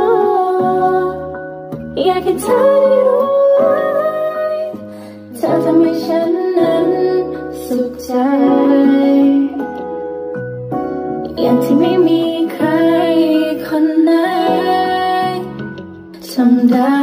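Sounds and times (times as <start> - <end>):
women singing a duet: 0.0 - 9.8, 11.3 - 17.0
instrumental backing: 0.0 - 17.0.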